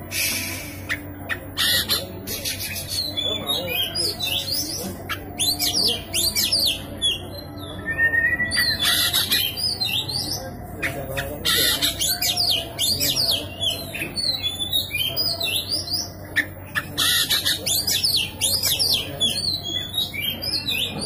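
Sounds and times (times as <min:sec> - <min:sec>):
bird singing rasping and whistling: 0:00.0 - 0:21.0.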